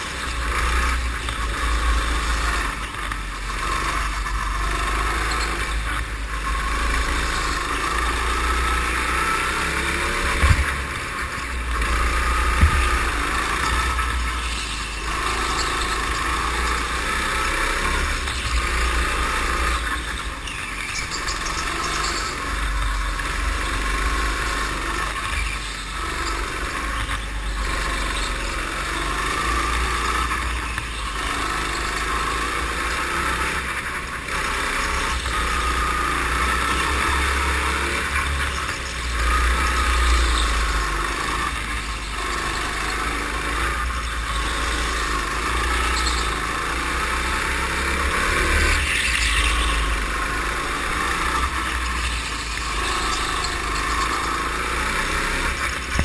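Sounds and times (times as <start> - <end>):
go-kart engine running hard: 0.0 - 56.0
tyres squealing on concrete: 0.0 - 56.0.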